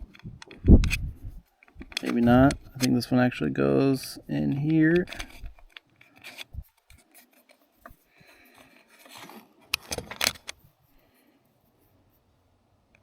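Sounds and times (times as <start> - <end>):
small parts clicking and rubbing: 0.0 - 11.0.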